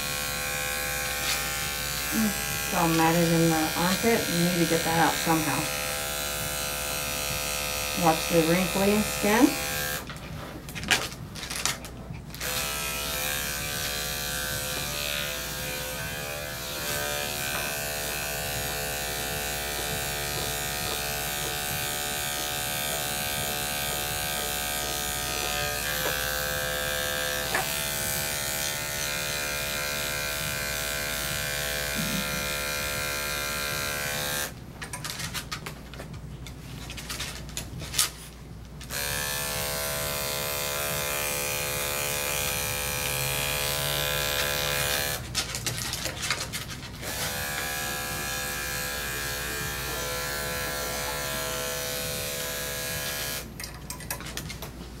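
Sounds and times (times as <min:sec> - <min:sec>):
electric clippers motor hum: 0:00.0 - 0:10.1, 0:12.3 - 0:34.6, 0:38.8 - 0:45.4, 0:47.0 - 0:53.6.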